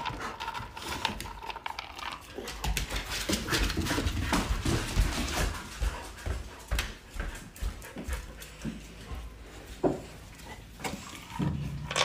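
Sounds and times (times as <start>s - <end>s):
dog paws on hardwood floor: 0.0s - 12.0s.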